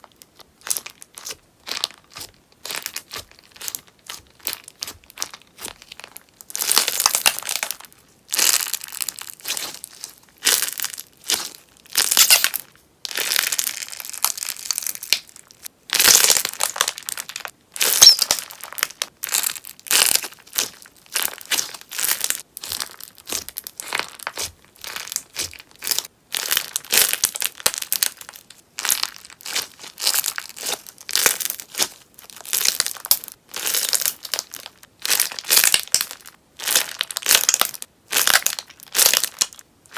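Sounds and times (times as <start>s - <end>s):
crunchy slime crackling and popping: 0.0s - 39.9s.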